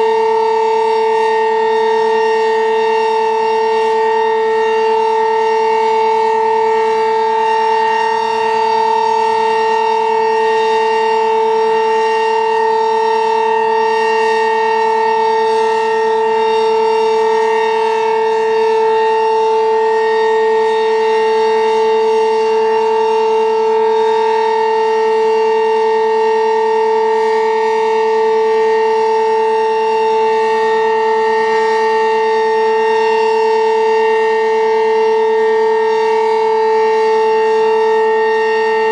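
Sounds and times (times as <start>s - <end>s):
two-tone warning siren: 0.0s - 38.9s.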